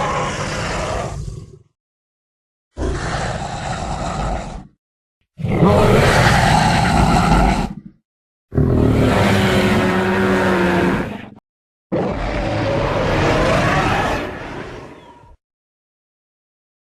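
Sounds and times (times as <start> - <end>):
dinosaur roar: 0.0 - 1.8, 2.8 - 4.8, 5.4 - 15.4.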